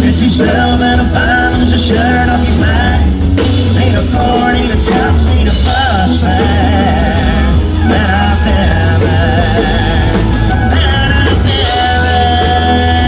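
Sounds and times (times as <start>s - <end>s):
country band playing live: 0.0s - 13.0s.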